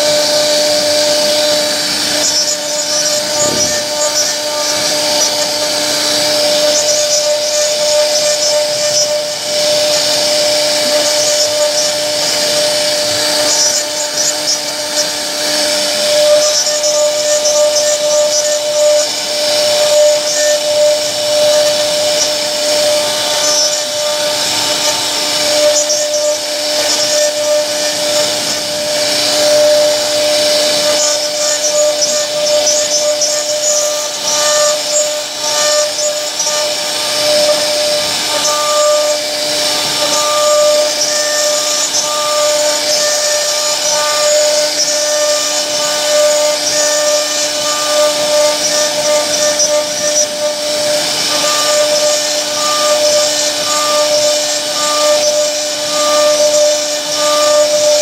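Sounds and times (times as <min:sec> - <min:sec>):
bit cutting wood hiss: 0:00.0 - 0:58.0
router spindle whine: 0:00.0 - 0:58.0.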